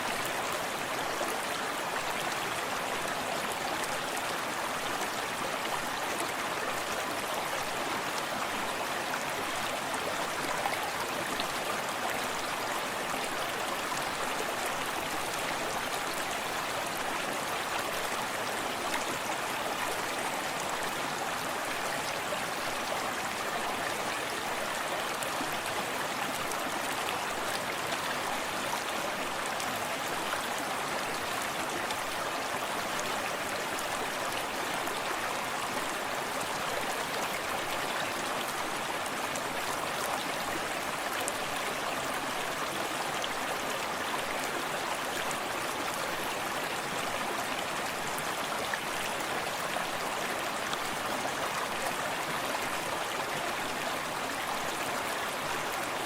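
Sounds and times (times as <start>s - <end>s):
small waterfall: 0.0s - 56.0s.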